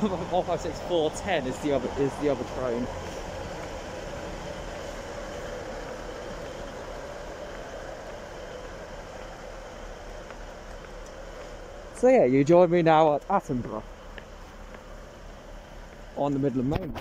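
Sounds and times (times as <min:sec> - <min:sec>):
diesel train engine drone: 0:00.0 - 0:17.0.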